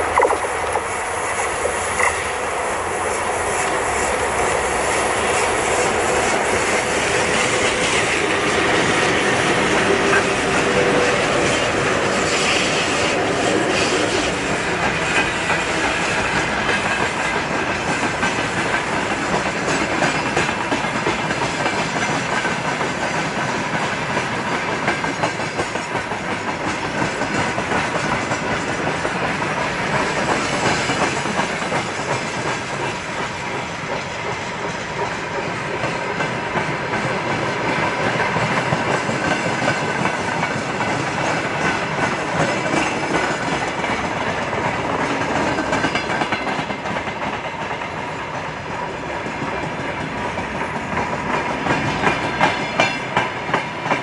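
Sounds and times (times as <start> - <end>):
freight train rumbling past: 0.0 - 54.0
wheels clicking over rail joints: 0.0 - 54.0.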